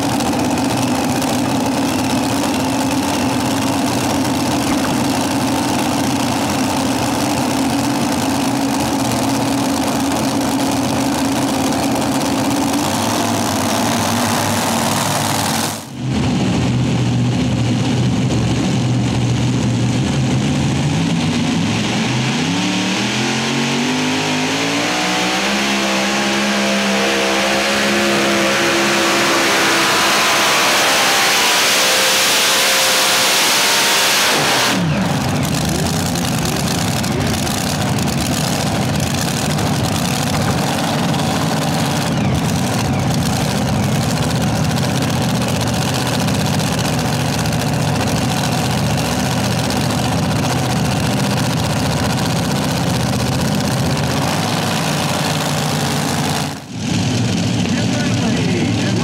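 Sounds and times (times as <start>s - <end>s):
pulling tractor engines whining: 0.0s - 59.0s
pulling tractor rumbling at low revs: 0.0s - 59.0s.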